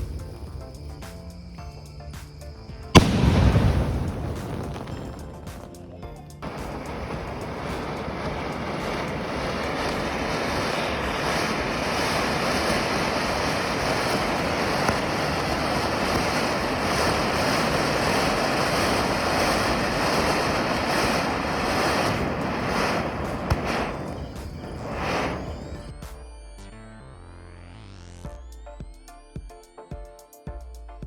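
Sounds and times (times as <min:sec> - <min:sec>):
sharp pops: 0:00.0 - 0:26.0
firework fountain hissing: 0:00.0 - 0:26.2.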